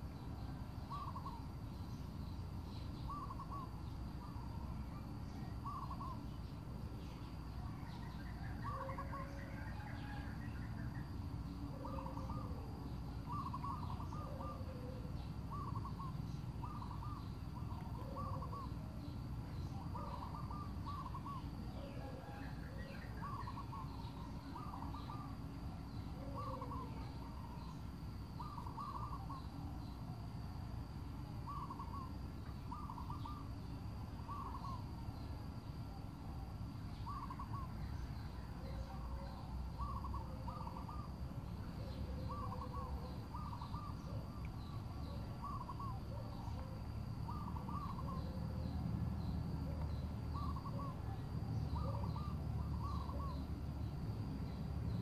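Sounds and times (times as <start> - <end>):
wild birds calling: 0.0 - 30.4, 31.1 - 55.0.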